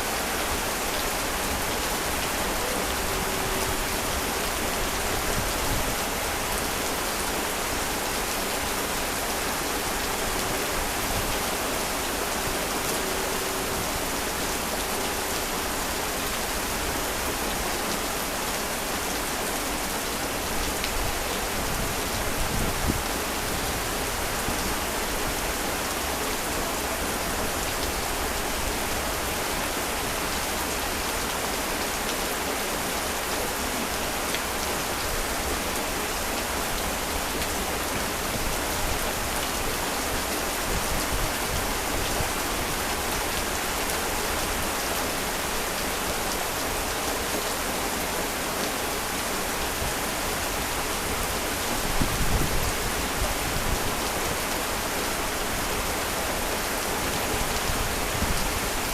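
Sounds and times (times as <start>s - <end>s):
heavy rain: 0.0s - 58.9s
rain spatters: 0.0s - 58.9s.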